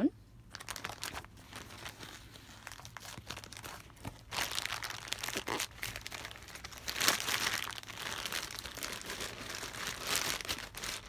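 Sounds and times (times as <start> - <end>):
plastic bag crinkling: 0.5 - 11.0.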